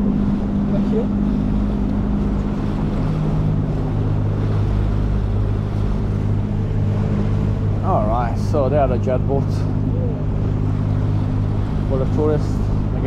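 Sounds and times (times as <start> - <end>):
outboard motor running: 0.0 - 13.0
water rushing along hull: 0.0 - 13.0.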